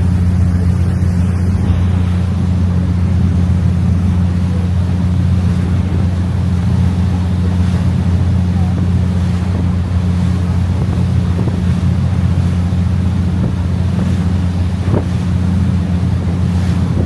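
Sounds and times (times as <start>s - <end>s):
boat engine droning: 0.0s - 17.0s
water rushing past hull: 0.0s - 17.0s
wind on microphone: 0.0s - 17.0s.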